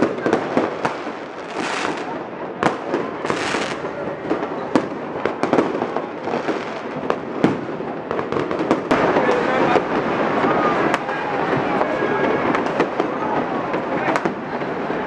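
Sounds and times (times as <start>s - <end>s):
continuous firework crackle: 0.0s - 15.0s
fireworks bangs and cracks: 0.0s - 15.0s.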